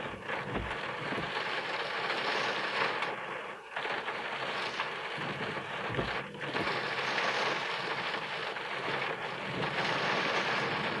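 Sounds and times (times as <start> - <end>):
rain falling on a car: 0.0 - 11.0.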